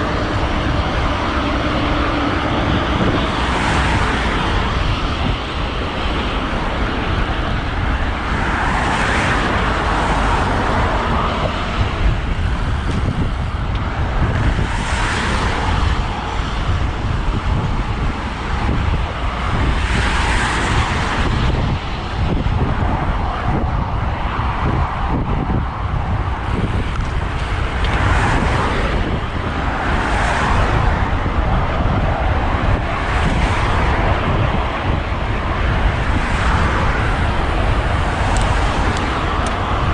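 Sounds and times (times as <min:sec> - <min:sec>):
cars passing by: 0:00.0 - 0:39.9
wind rumble on microphone: 0:00.0 - 0:39.9.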